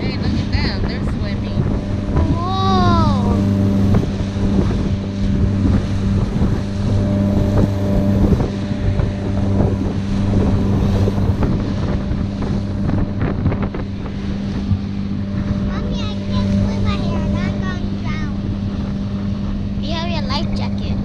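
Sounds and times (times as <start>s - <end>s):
boat wake rushing: 0.0s - 21.0s
outboard motor running: 0.0s - 21.0s
wind buffeting microphone: 0.0s - 21.0s.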